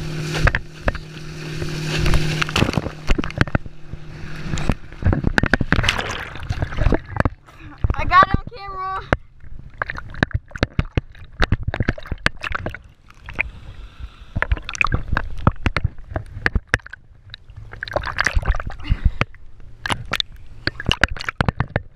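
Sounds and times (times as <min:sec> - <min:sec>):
water sloshing and splashing: 0:00.0 - 0:21.9
waves slapping camera housing: 0:00.3 - 0:08.5, 0:09.1 - 0:13.5, 0:14.3 - 0:21.9.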